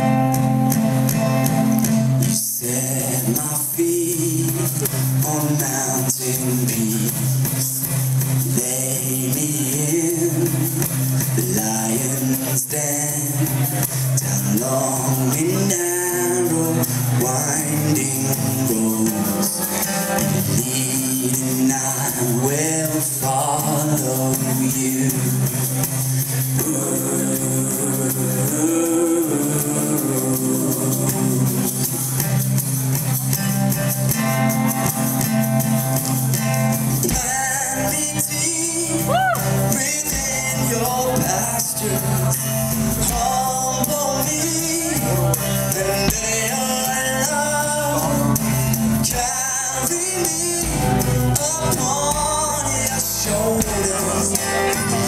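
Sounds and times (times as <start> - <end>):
person singing: 0.0 - 33.4, 36.2 - 55.0
acoustic guitar: 0.0 - 55.0
drum kit: 0.0 - 55.0.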